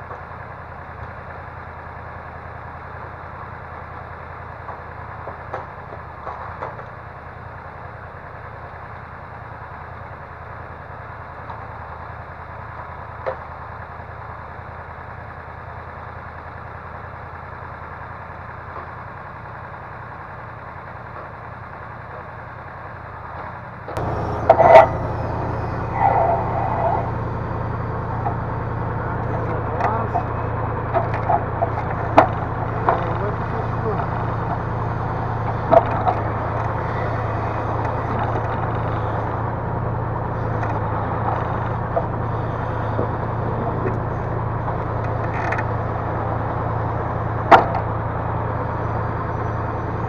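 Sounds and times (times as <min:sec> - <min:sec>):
diesel engine idling and revving: 0:00.0 - 0:50.0.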